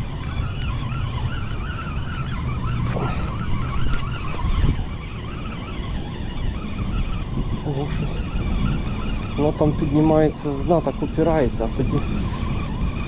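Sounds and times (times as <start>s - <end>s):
city road traffic rumble: 0.0s - 13.0s
wavering high tone: 0.0s - 13.0s.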